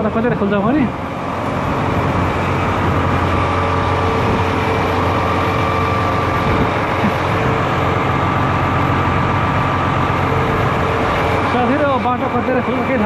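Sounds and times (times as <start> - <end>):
truck diesel engine idling: 0.0 - 13.0.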